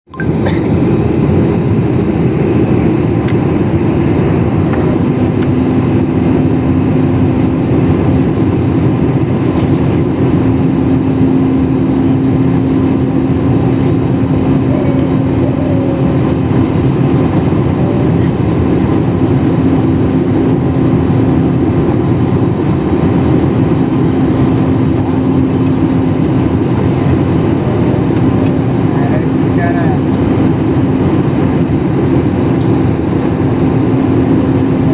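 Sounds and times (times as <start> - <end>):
jet engine and airflow rush: 0.1 - 34.9.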